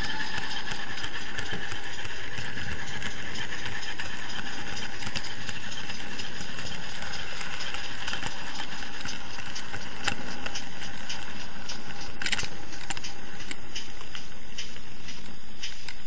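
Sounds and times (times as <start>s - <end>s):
model truck running on track: 0.0s - 16.0s
steam engine running sound: 0.0s - 16.0s.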